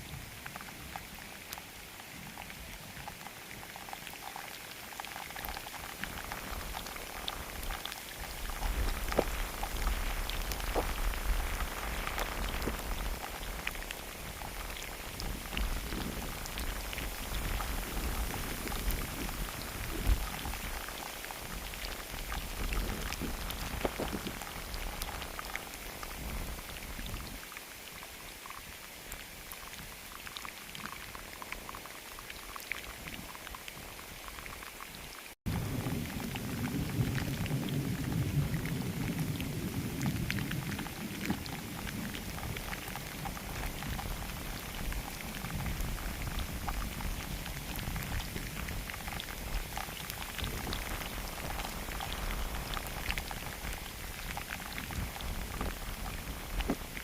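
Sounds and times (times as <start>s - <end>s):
steady rain falling: 0.0s - 57.0s
raindrops ticking: 0.3s - 57.0s.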